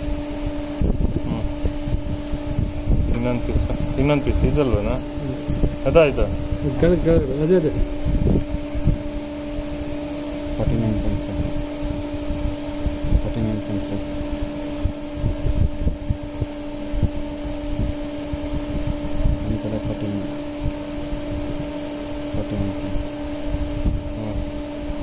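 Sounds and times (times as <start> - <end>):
low rumble on microphone: 0.0 - 25.0
machine hum at two pitches: 0.0 - 25.0.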